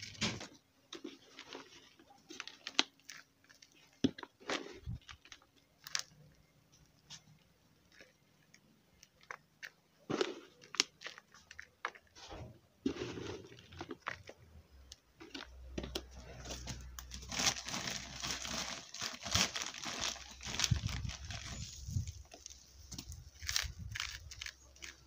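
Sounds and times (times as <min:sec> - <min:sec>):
potting soil crunching and rustling: 0:00.0 - 0:25.0.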